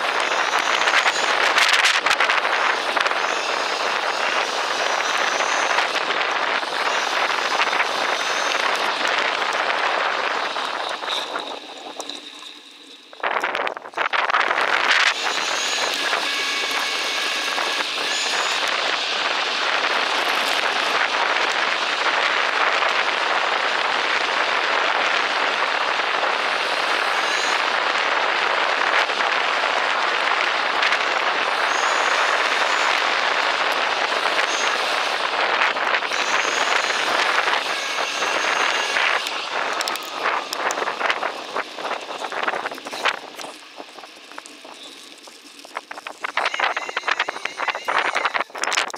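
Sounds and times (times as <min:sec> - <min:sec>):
bicycle tyres hissing: 0:00.0 - 0:48.3.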